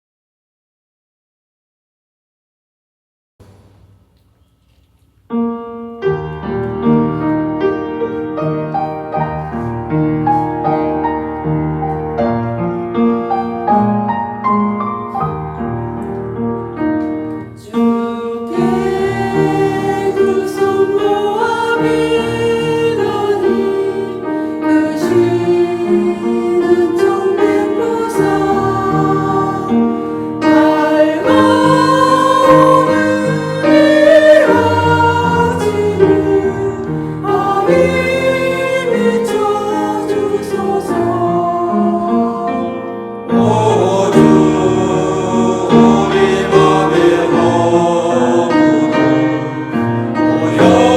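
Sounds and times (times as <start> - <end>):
piano accompaniment: 5.1 - 50.9
church choir singing: 5.3 - 50.9.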